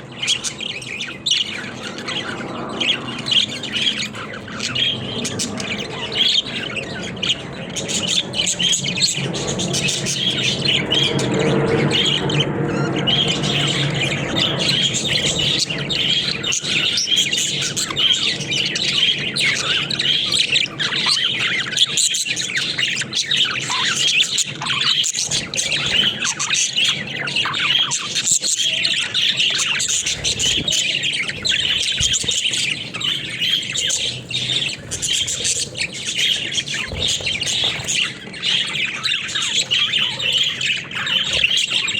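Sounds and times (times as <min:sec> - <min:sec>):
budgerigars chattering: 0:00.0 - 0:41.9.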